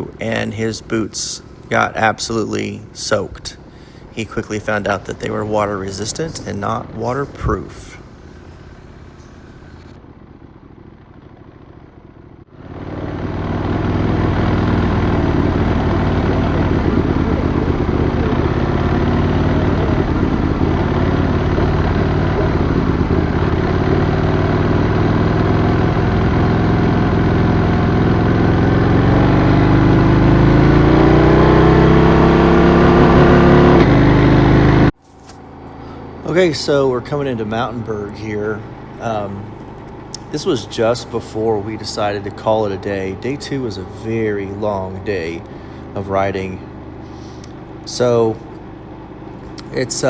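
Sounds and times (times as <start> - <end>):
motorcycle engine accelerating: 0.0 - 50.0.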